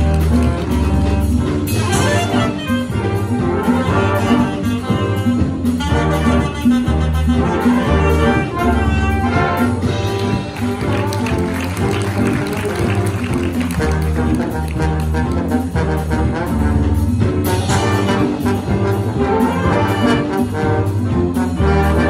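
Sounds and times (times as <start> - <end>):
big jazz band playing: 0.0 - 22.0.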